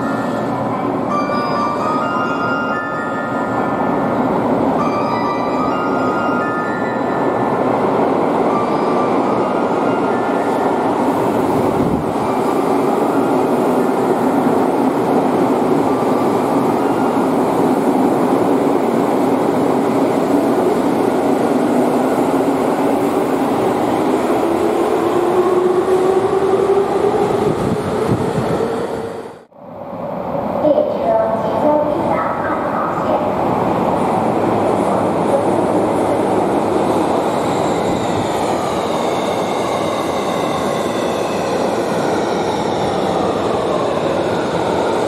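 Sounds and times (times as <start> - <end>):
subway train wheels rumbling: 0.0 - 45.0.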